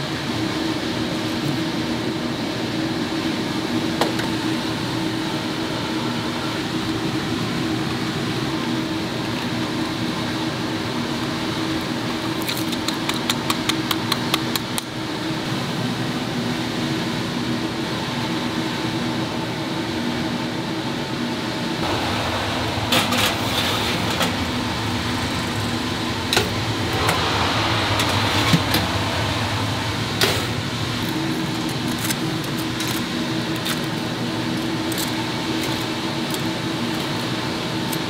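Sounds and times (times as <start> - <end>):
ventilation fan humming: 0.0 - 38.0.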